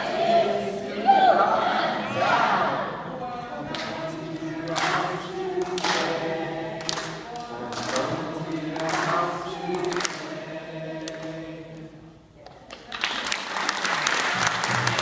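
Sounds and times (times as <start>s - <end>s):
children's choir singing: 0.0s - 12.2s.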